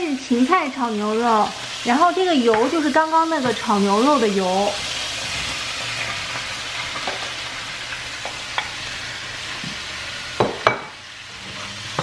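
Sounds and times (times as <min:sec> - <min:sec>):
celery sizzling in a frying pan: 0:00.0 - 0:12.0.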